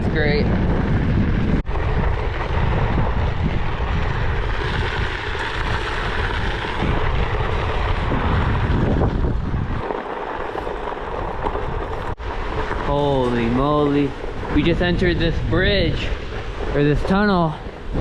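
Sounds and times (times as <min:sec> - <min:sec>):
wind on microphone: 0:00.0 - 0:18.0
tyre rolling over dirt trail: 0:00.5 - 0:18.0.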